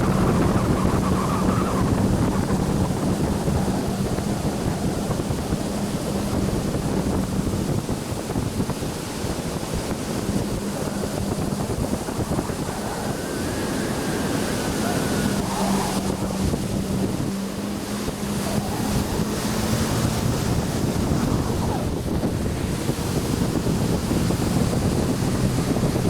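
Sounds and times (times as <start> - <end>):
jet ski engine hum: 0.0 - 26.0
rushing water: 0.0 - 26.0
wind buffeting microphone: 0.0 - 26.0.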